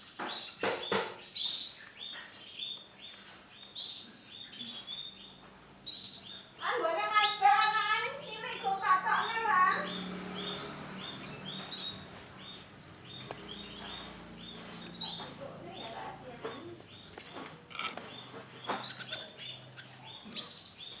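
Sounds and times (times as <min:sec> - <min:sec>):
canary chirping: 0:00.0 - 0:21.0.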